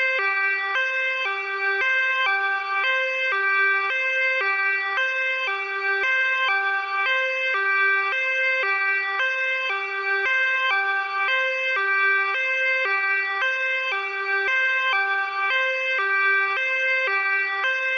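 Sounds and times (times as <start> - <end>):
ambulance two-tone siren: 0.0 - 17.9.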